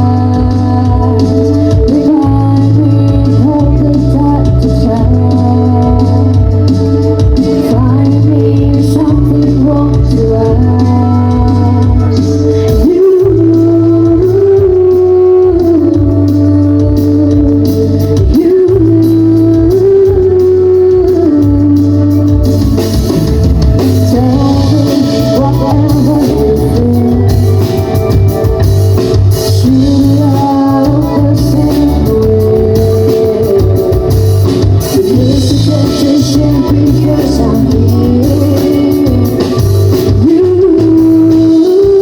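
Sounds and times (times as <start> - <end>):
live band playing: 0.0 - 42.0
person singing: 0.0 - 42.0.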